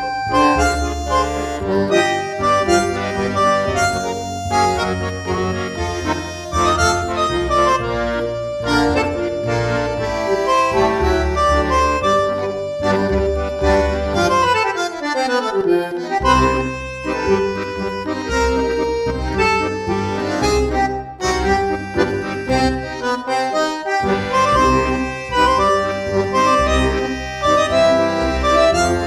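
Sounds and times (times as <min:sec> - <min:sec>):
instrumental background music: 0:00.0 - 0:29.0.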